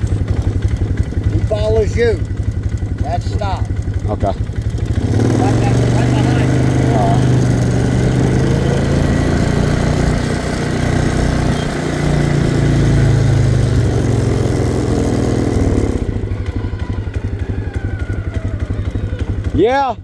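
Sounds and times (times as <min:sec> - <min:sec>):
atv engine revving and idling: 0:00.0 - 0:20.0.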